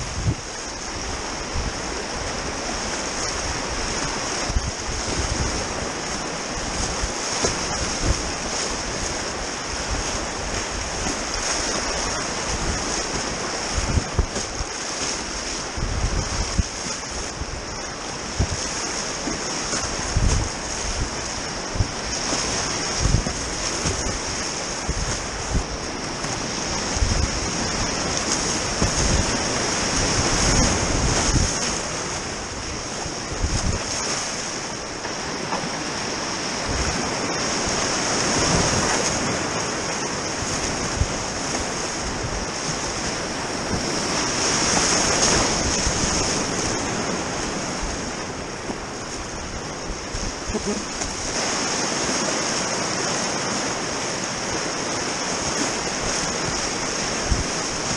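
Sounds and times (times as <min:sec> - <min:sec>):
rapids rushing: 0:00.0 - 0:57.9
water splashing on camera: 0:01.6 - 0:57.9.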